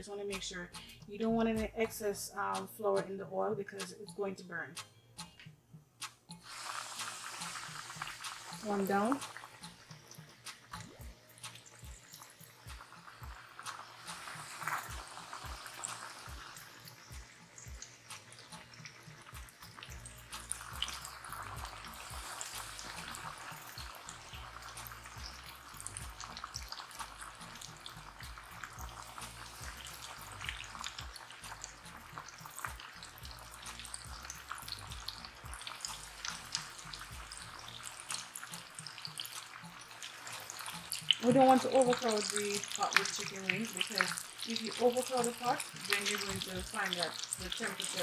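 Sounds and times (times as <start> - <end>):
chicken frying in oil: 6.4 - 48.0.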